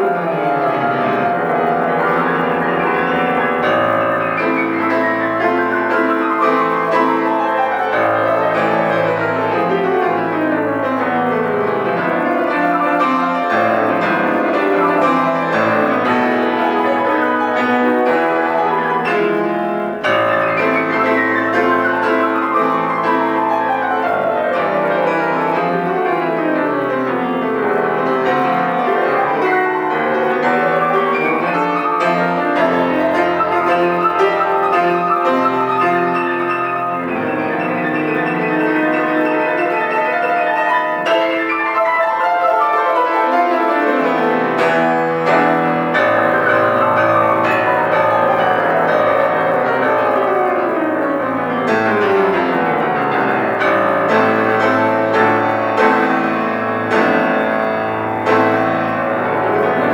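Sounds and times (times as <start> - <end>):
solo piano classical music: 0.0 - 59.9.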